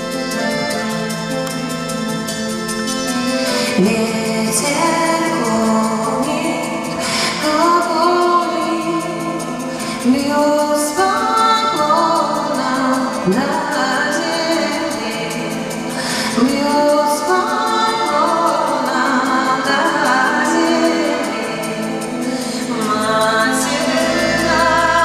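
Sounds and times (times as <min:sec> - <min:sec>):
accordion: 0:00.0 - 0:25.0
band accompaniment: 0:00.0 - 0:25.0
woman singing into a microphone: 0:03.5 - 0:25.0.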